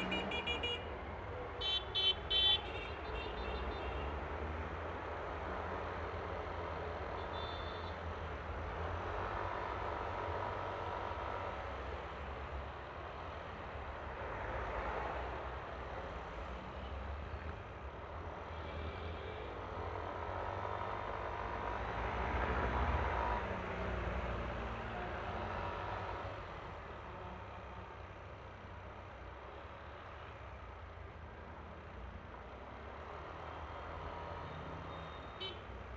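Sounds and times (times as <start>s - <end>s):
road and wind noise: 0.0s - 35.9s.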